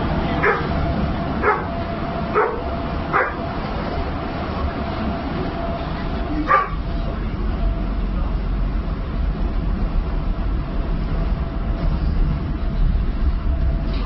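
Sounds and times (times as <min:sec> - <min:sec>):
subway car rumble: 0:00.0 - 0:14.0.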